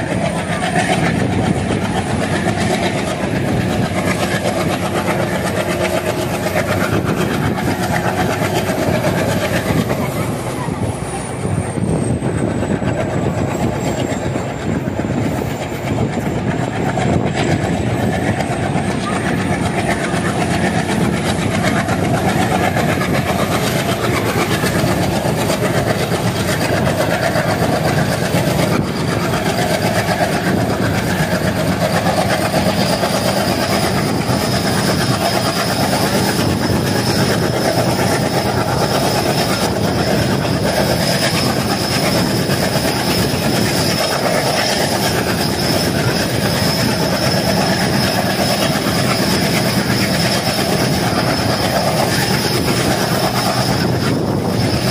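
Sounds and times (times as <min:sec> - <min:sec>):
train wheels rushing on rail: 0:00.0 - 0:54.9.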